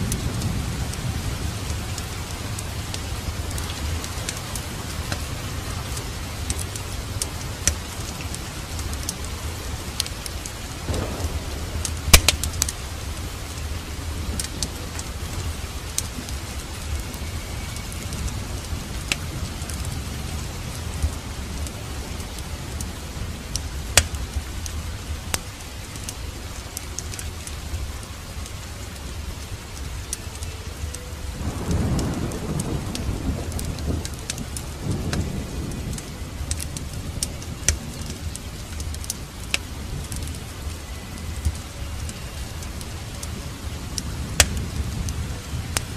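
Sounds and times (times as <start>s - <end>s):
fireplace fire crackling: 0.0s - 45.9s
low rumble of thunder: 0.0s - 45.9s
steady rain: 0.0s - 45.9s.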